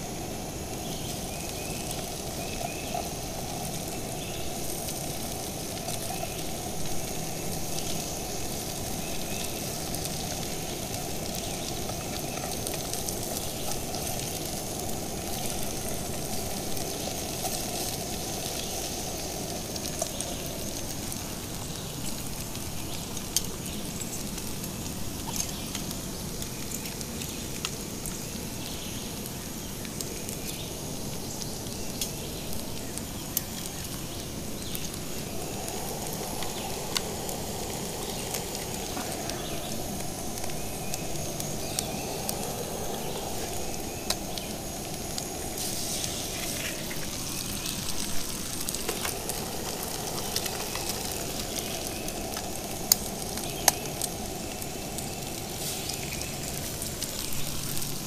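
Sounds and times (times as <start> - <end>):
hash browns sizzling in a pan: 0.0 - 58.0.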